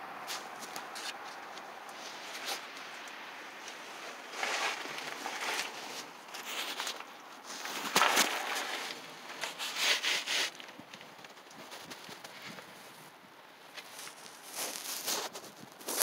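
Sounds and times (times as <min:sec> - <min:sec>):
rustling handling noise: 0:00.2 - 0:16.0.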